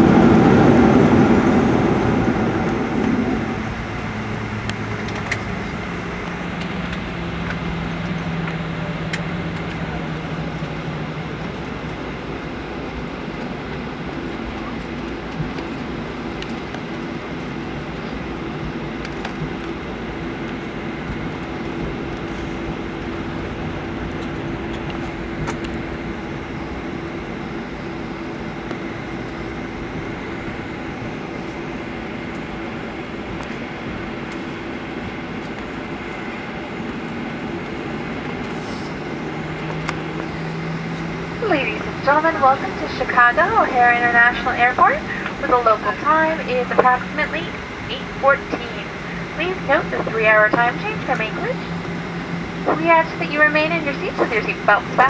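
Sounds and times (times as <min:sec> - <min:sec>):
aircraft cabin rumble and hum: 0:00.0 - 0:55.0.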